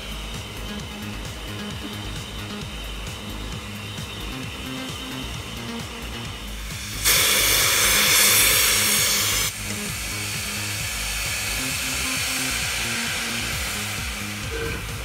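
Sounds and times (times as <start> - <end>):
background music: 0.0 - 15.0
steam locomotive hissing: 0.0 - 15.0.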